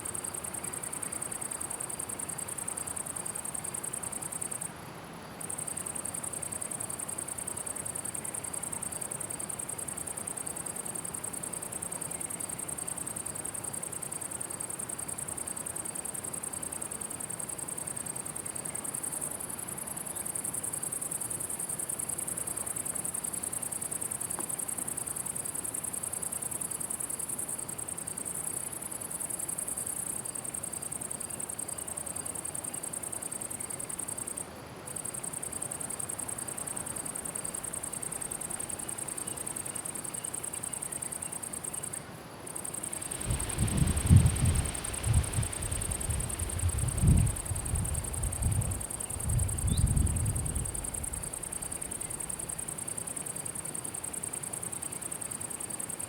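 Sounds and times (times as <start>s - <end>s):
crickets chirring: 0.0s - 4.7s, 5.3s - 56.0s.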